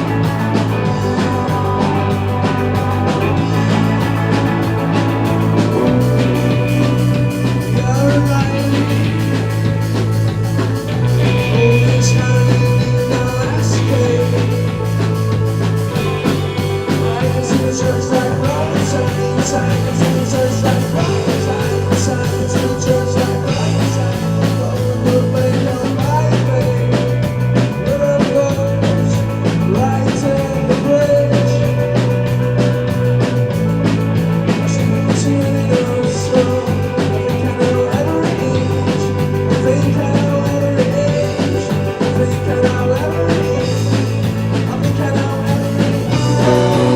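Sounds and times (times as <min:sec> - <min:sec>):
bass notes: 0:00.0 - 0:46.9
drum kit: 0:00.0 - 0:46.9
guitar: 0:00.0 - 0:46.9.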